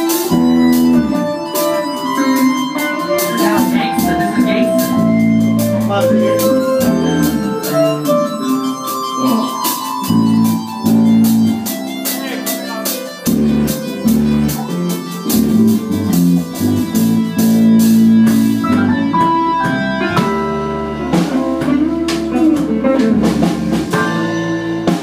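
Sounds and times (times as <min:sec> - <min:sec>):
bass guitar: 0:00.0 - 0:25.0
drum kit: 0:00.0 - 0:25.0
electric guitar: 0:00.0 - 0:25.0.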